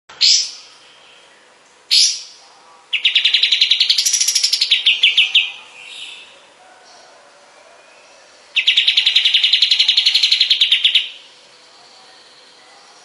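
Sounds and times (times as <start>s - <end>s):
bird calls and trill: 0.1s - 13.0s.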